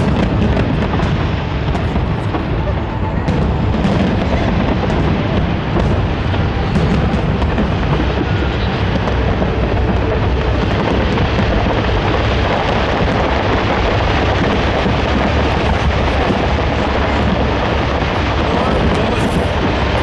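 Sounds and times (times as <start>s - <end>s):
fireworks barrage rumbling: 0.0s - 20.0s.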